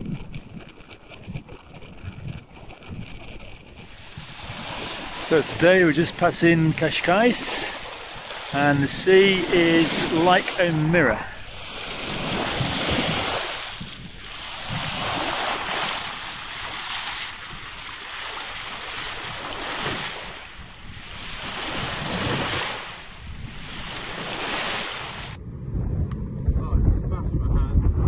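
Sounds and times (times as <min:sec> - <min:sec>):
wind and sea rushing: 0:00.0 - 0:28.0
wind buffeting microphone: 0:00.0 - 0:28.0.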